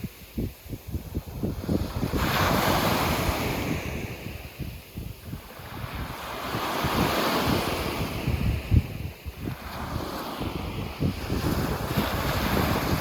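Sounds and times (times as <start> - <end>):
waves crashing on a beach: 0.0 - 13.0
wind buffeting microphone: 0.0 - 13.0.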